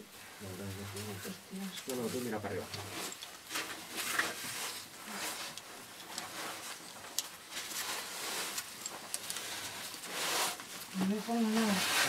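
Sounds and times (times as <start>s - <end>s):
suit scraping against rock: 1.9s - 12.0s.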